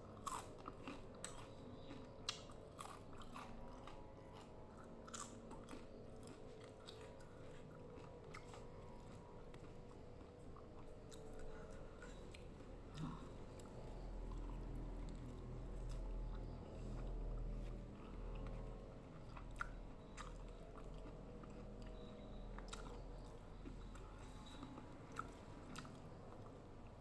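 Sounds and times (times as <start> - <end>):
person chewing food: 0.2 - 21.9.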